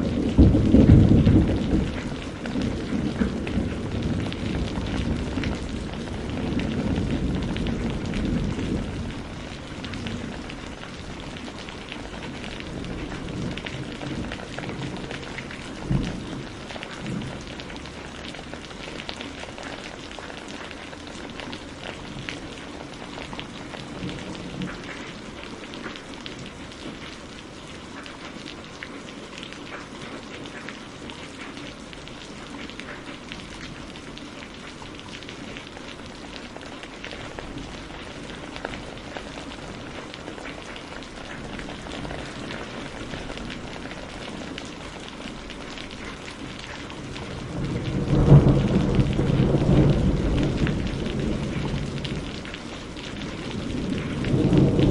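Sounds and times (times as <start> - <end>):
low rumble of thunder: 0.0 - 27.8, 31.2 - 54.9
heavy rain falling: 0.0 - 54.9.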